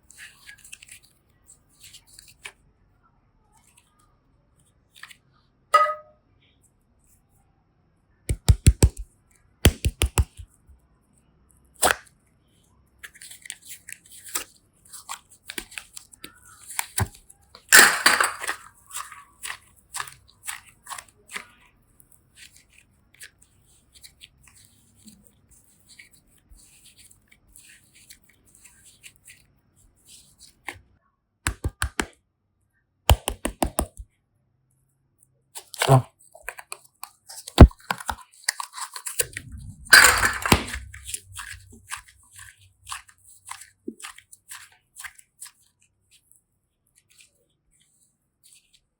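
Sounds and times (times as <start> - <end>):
clay and slime clicks and crackles: 0.0 - 2.7, 3.5 - 5.4, 8.3 - 32.2, 33.1 - 34.1, 35.2 - 48.9.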